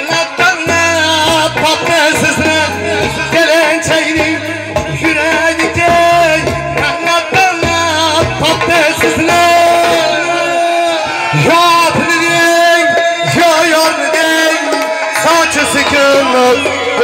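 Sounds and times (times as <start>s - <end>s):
electronic keyboard melody: 0.0s - 17.0s
man singing into a microphone: 0.0s - 17.0s.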